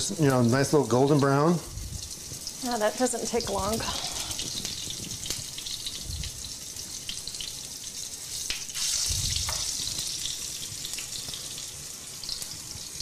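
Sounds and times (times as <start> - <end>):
fish searing in hot oil: 0.0 - 13.0
oil popping and crackling: 0.0 - 13.0.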